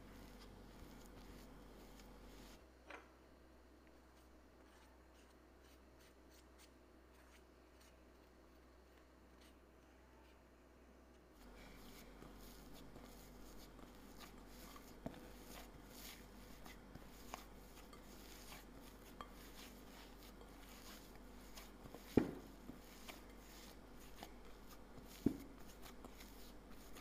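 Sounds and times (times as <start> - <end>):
hands kneading dough: 0.0 - 2.6, 3.8 - 27.0.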